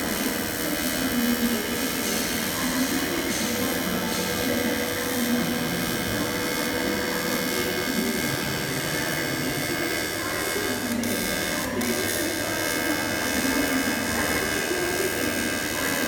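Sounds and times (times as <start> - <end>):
welding arc buzzing hiss: 0.0 - 16.0.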